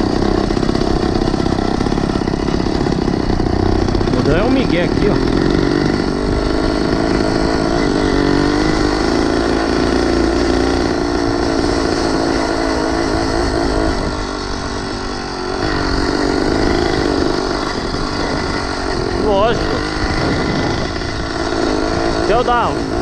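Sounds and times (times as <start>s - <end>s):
small bicycle engine running: 0.0s - 23.0s.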